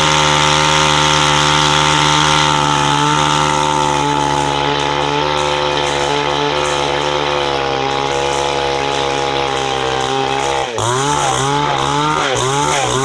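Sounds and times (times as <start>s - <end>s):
chainsaw running at high revs: 0.0s - 13.0s.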